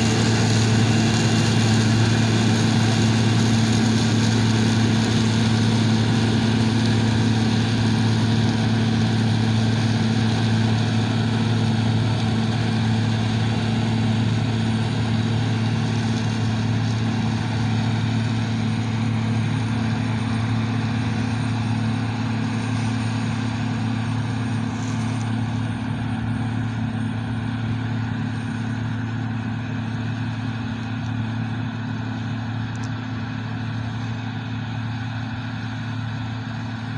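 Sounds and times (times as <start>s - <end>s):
combine harvester engine drone: 0.0s - 36.9s.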